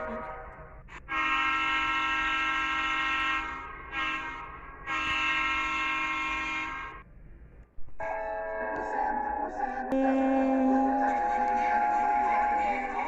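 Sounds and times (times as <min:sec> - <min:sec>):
train horn blasts: 0:00.0 - 0:07.0, 0:08.0 - 0:13.0.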